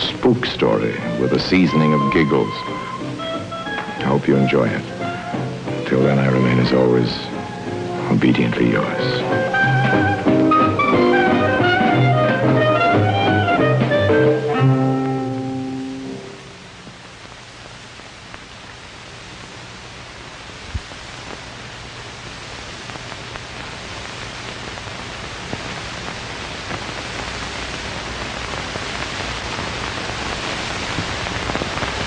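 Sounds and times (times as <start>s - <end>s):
static hiss: 0.0s - 32.0s.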